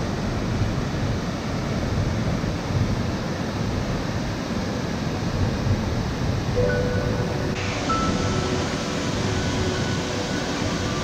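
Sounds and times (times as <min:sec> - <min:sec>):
rushing water roar: 0:00.0 - 0:11.0.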